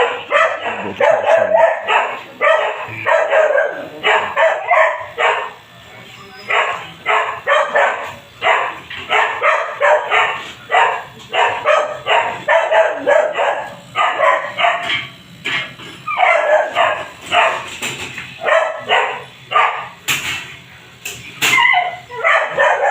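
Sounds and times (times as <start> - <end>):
dog barking: 0.0 - 5.7, 6.5 - 15.0, 16.1 - 17.7, 18.4 - 20.0, 21.6 - 22.9.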